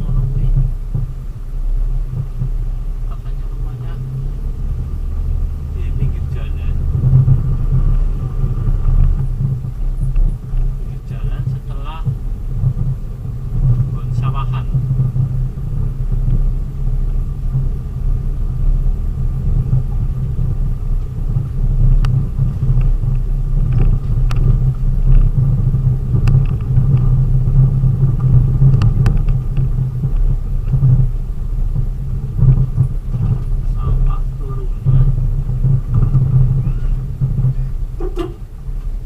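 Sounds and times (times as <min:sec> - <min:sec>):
engine and road rumble: 0:00.0 - 0:39.0.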